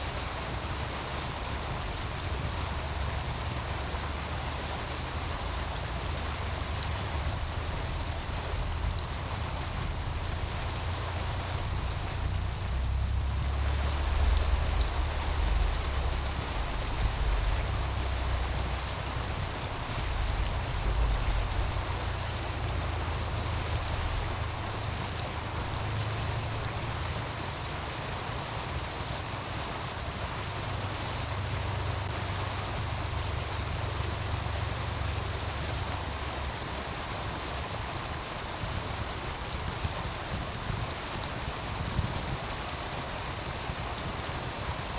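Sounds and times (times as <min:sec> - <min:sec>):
stream rushing: 0:00.0 - 0:44.9
wind rumbling: 0:00.0 - 0:44.9
wood fire crackling: 0:00.0 - 0:44.9.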